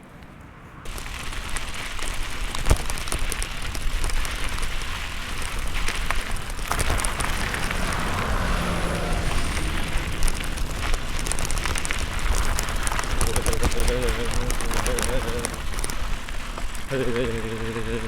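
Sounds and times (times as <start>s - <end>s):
wind buffeting microphone: 0.8s - 18.0s.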